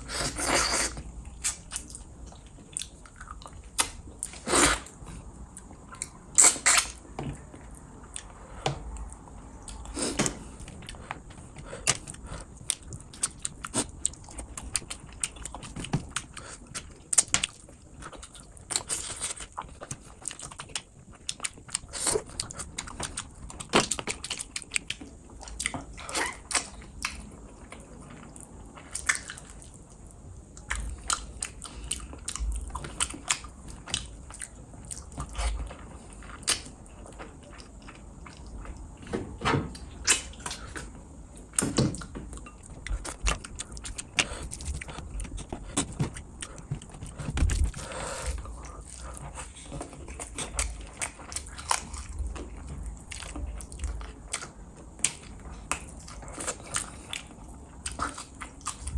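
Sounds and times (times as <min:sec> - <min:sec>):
person chewing food: 0:00.0 - 0:39.1, 0:39.7 - 0:58.9.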